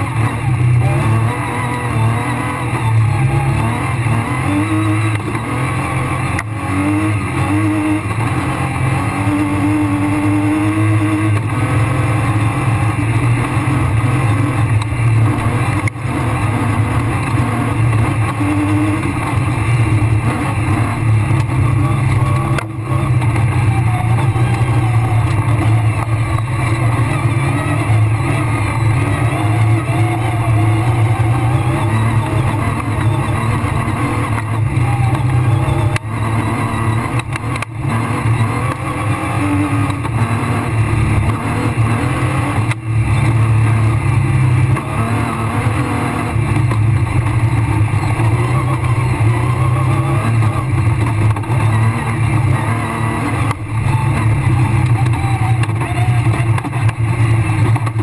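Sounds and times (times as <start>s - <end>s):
rally car engine running hard: 0.0s - 58.0s
road and tyre noise: 0.0s - 58.0s.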